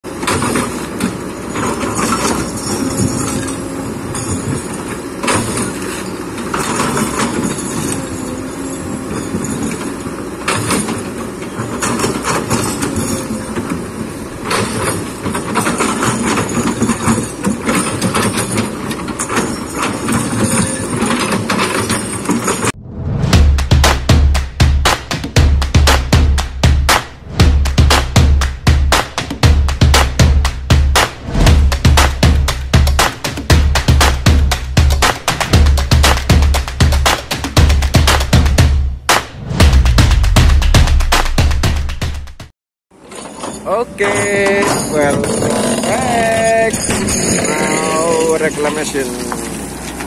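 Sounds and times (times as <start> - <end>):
diesel engine under load: 0.0 - 41.7, 43.0 - 50.0.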